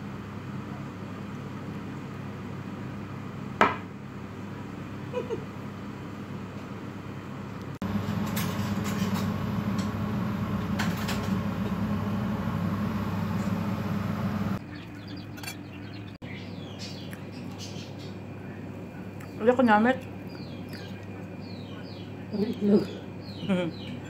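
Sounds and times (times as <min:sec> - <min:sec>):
refrigerator humming: 0:02.6 - 0:24.0.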